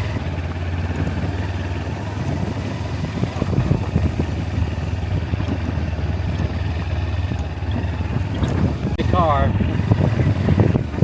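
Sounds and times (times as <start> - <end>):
clatter: 0.0 - 9.1
motorbike engine running: 0.0 - 11.0.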